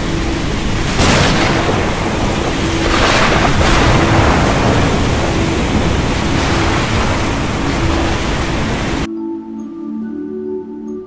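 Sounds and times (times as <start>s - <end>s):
heavy waves crashing: 0.0s - 9.1s
wind: 0.0s - 9.1s.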